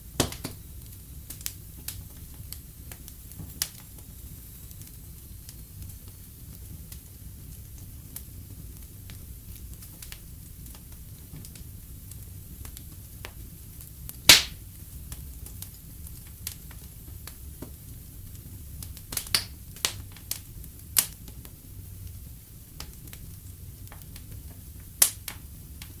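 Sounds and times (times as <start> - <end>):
fire crackling: 0.0 - 26.0
fire popping: 0.1 - 26.0.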